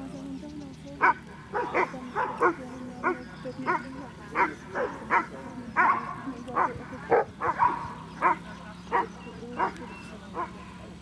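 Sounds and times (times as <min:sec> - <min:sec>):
steady low hum: 0:00.0 - 0:11.0
dog barking and yelping: 0:01.0 - 0:09.8.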